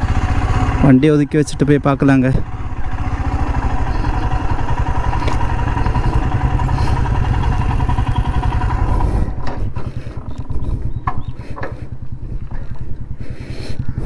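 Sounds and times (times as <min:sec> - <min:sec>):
motorcycle engine low revs: 0:00.0 - 0:14.0.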